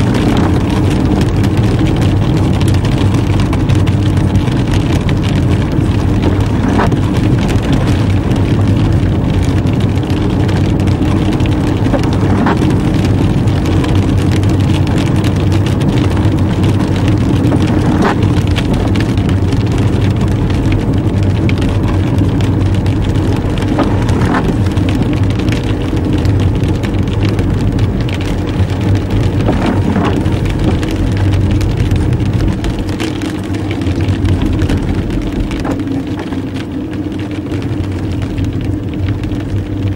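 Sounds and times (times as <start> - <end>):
engine and road hum: 0.0 - 39.9.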